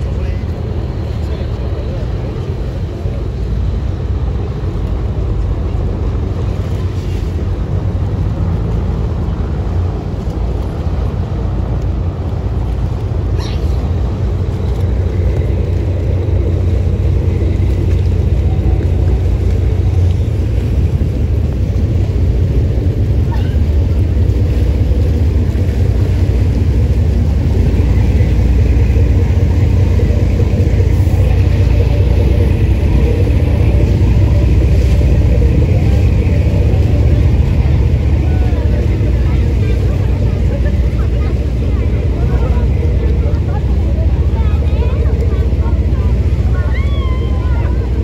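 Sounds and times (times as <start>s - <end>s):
ferry engine drone: 0.0s - 48.0s
hull noise: 0.0s - 48.0s.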